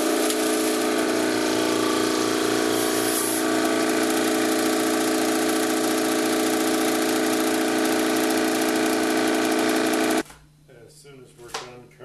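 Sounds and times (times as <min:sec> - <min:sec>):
electric air pump droning: 0:00.0 - 0:10.2.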